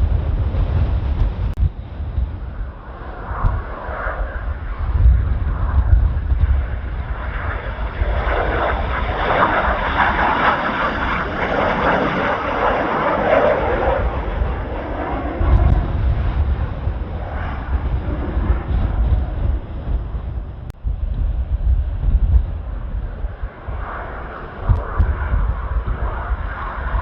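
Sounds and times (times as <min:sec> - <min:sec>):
jet aircraft flying past: 0:00.0 - 0:27.0
wind rumbling on microphone: 0:00.0 - 0:27.0.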